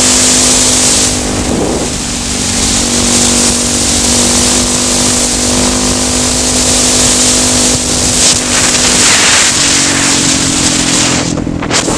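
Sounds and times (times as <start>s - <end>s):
motorcycle engine running: 0.0s - 11.9s
wind noise on microphone: 0.0s - 11.9s.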